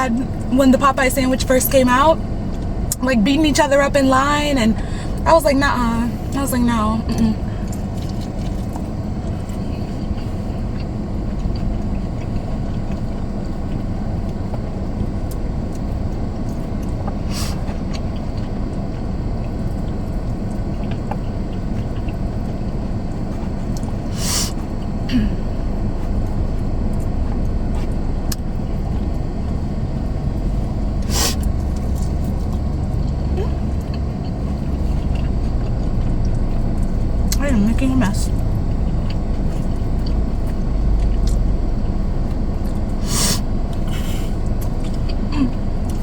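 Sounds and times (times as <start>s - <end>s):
car cabin engine and road rumble: 0.0s - 46.0s.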